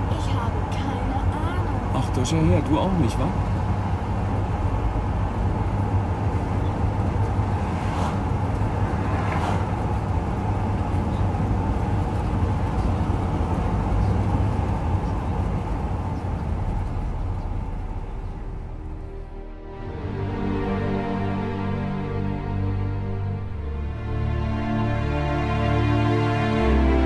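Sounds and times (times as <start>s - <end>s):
engine and tyre rumble: 0.0s - 27.0s.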